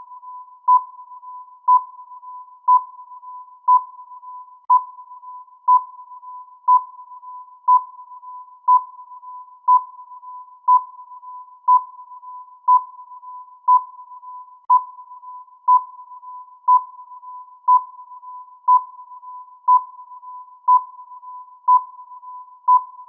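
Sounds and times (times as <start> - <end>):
faint steady tone: 0.0 - 23.0.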